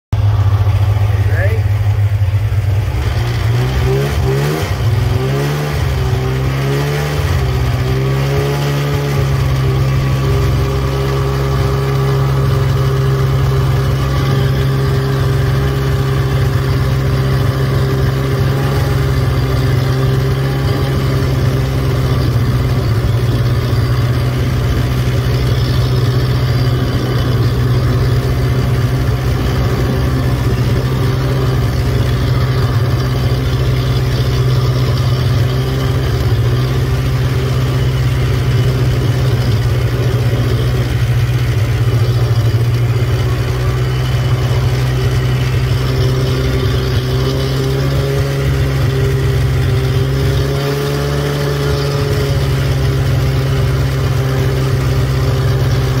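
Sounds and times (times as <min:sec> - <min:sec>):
snowmobile engine revving: 0:00.2 - 0:56.0.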